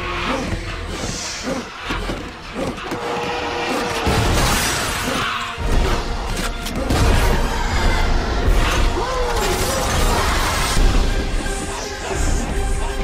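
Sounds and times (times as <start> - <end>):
dramatic orchestral music: 0.0 - 13.0.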